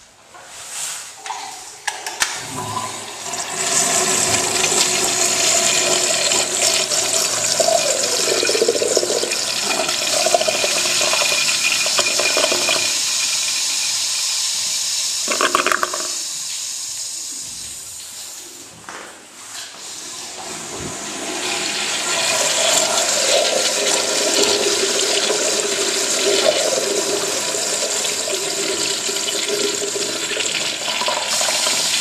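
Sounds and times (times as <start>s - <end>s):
urinal flushing: 1.2s - 18.7s, 19.6s - 32.0s.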